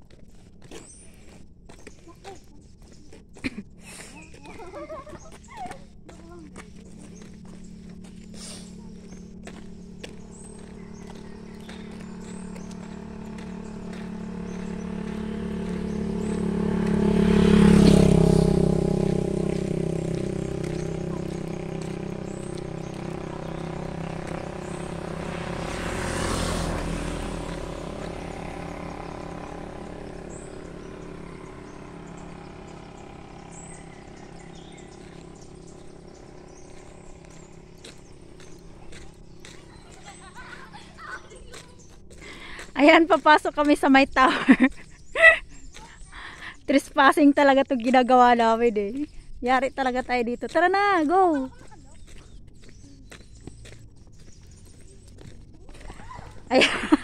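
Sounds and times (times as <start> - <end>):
motorcycles passing by: 0.0 - 57.0.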